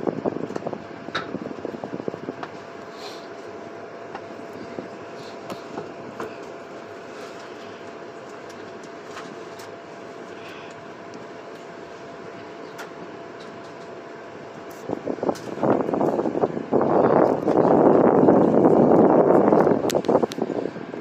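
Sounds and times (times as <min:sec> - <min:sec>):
train running noise inside carriage: 0:00.0 - 0:21.0.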